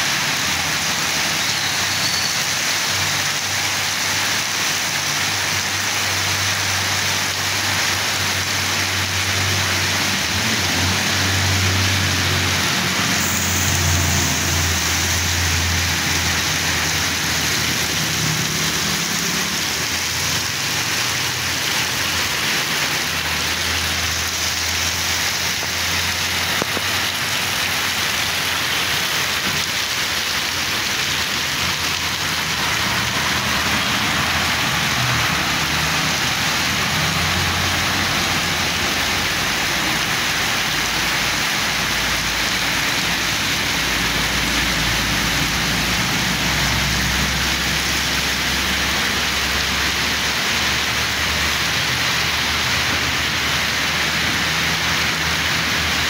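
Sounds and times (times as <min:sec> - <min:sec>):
heavy rain splashing on road: 0:00.0 - 0:56.0
vehicles rumbling through rain: 0:00.0 - 0:56.0.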